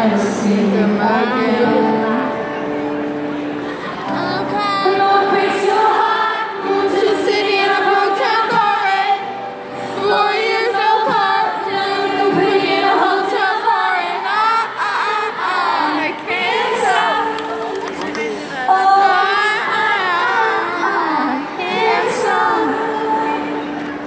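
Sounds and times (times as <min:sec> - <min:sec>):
woman singing a pop song: 0:00.0 - 0:02.5, 0:04.2 - 0:23.8
audience singing along: 0:00.0 - 0:24.0.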